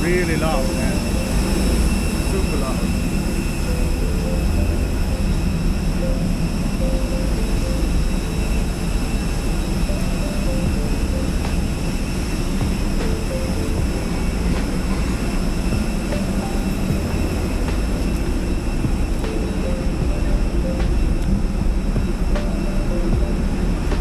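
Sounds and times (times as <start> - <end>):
faint high whining tones: 0.0 - 24.0
jet airliner engine noise: 0.0 - 24.0.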